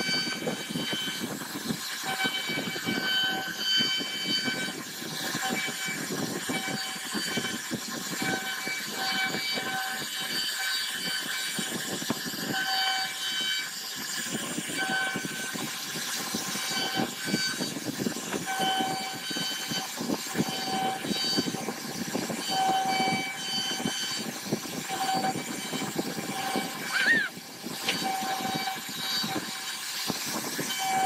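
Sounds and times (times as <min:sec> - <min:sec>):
high machine whine: 0:00.0 - 0:31.0
router bit chattering through wood: 0:00.0 - 0:31.0.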